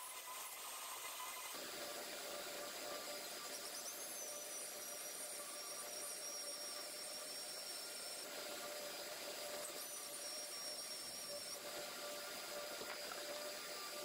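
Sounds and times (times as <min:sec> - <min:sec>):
electric drill whine: 0:00.0 - 0:14.0.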